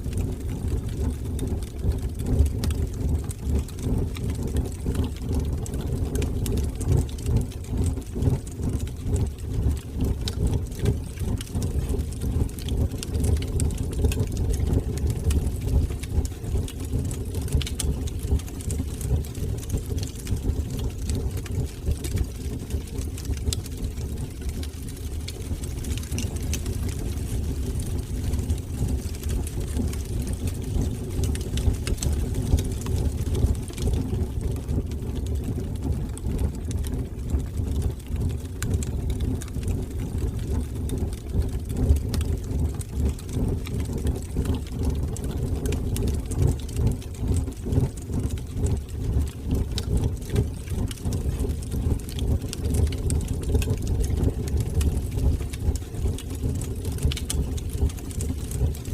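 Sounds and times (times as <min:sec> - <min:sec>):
fire crackling in fireplace: 0:00.0 - 0:58.9.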